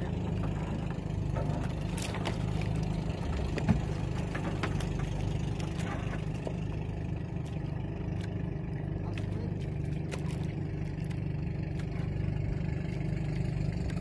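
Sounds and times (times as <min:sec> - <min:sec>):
small boat engine idling: 0:00.0 - 0:14.0.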